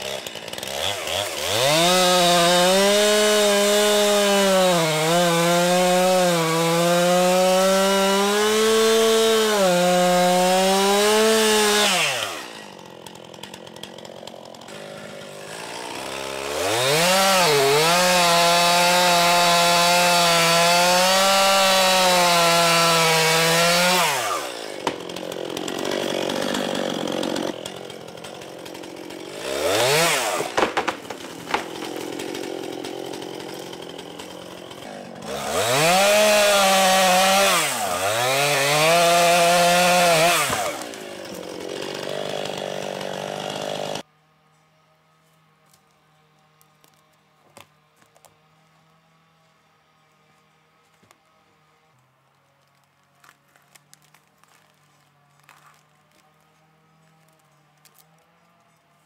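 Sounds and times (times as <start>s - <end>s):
chainsaw cutting wood: 0.0s - 44.1s, 46.5s - 59.0s.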